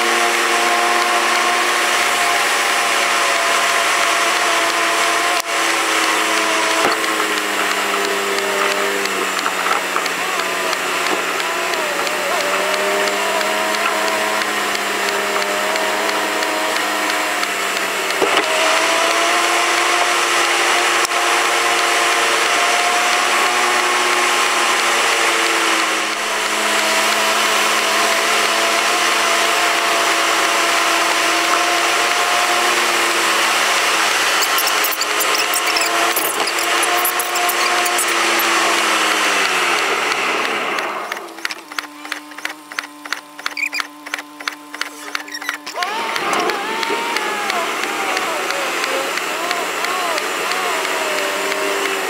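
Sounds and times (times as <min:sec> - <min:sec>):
car engine droning inside cabin: 0:00.0 - 0:52.0.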